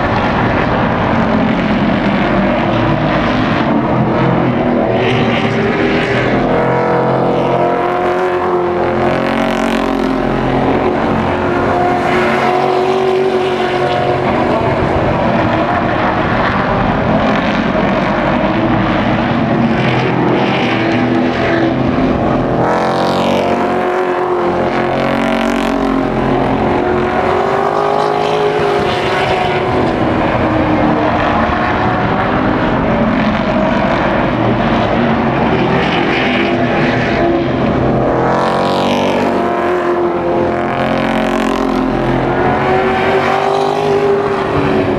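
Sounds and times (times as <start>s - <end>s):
racing truck engines: 0.0s - 44.9s.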